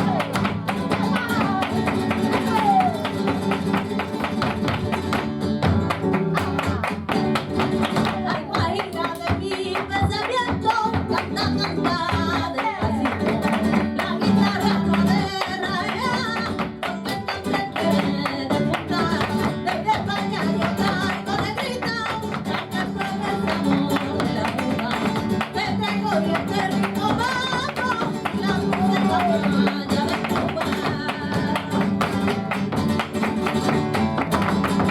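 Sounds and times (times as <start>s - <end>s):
person singing: 0.0s - 3.2s, 6.2s - 7.3s, 8.0s - 32.2s
flamenco guitar strumming: 0.0s - 34.9s.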